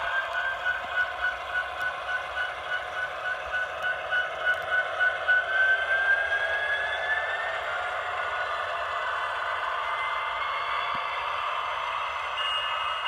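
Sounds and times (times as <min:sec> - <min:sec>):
model locomotive engine throb: 0:00.0 - 0:13.0.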